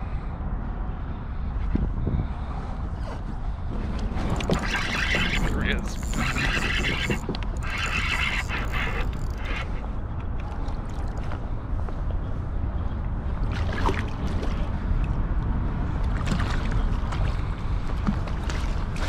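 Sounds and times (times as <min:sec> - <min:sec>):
wind buffeting microphone: 0:00.0 - 0:19.0
water around kayak: 0:02.0 - 0:19.0.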